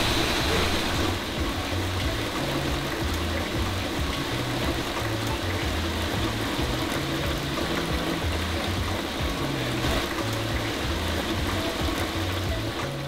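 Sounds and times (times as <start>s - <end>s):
background music with bass line: 0.0s - 13.0s
water pouring into tubs: 0.0s - 13.0s.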